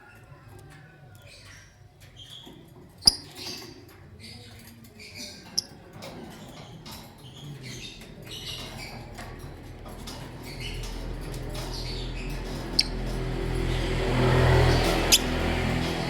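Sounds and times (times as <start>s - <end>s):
birds squeaky chirps: 1.1s - 16.0s.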